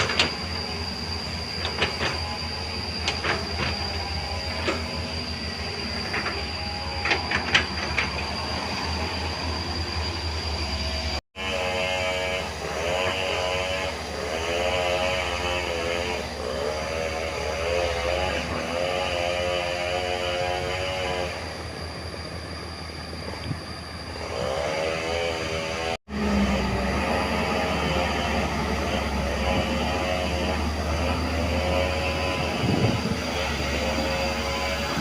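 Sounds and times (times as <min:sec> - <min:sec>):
hydraulics whining under load: 0:00.0 - 0:35.0.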